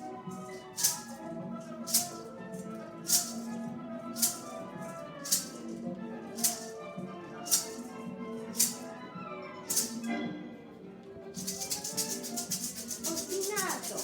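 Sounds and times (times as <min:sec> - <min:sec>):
maraca shaken in sharp strokes: 0:00.0 - 0:09.0, 0:09.7 - 0:10.1, 0:11.4 - 0:14.0
background music: 0:00.0 - 0:14.0.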